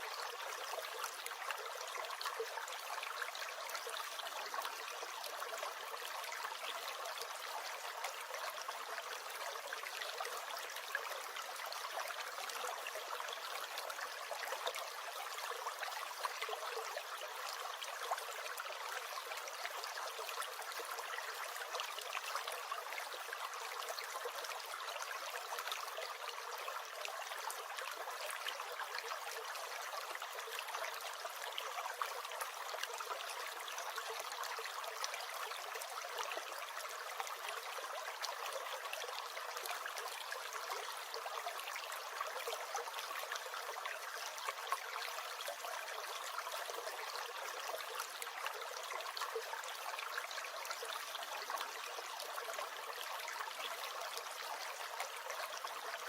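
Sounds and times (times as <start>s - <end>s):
brook gurgling: 0.0s - 56.0s.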